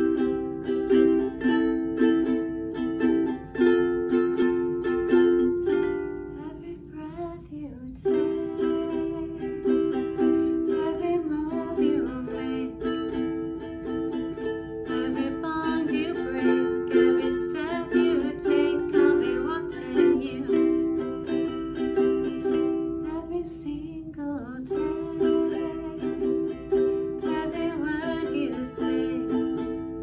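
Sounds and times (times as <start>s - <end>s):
ukulele strumming: 0.0s - 30.0s.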